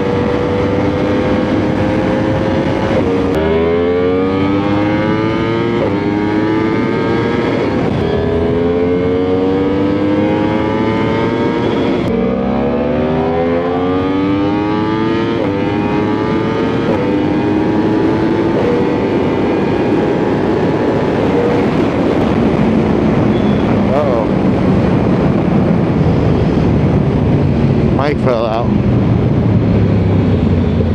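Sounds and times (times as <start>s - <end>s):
motorbike engine accelerating: 0.0s - 30.9s.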